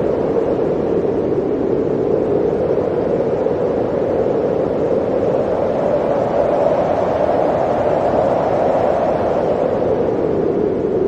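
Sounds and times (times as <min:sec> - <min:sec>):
blizzard wind blowing: 0:00.0 - 0:11.0.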